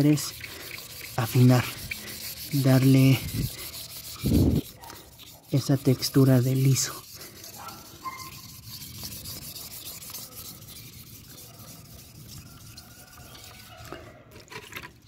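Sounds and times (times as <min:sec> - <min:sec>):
sandpaper rubbing on metal: 0:00.0 - 0:13.9.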